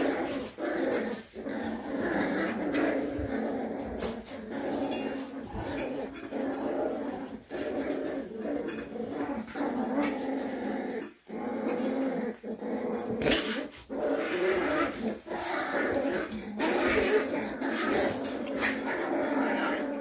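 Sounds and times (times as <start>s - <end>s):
puppies growling and yapping: 0.0s - 20.0s.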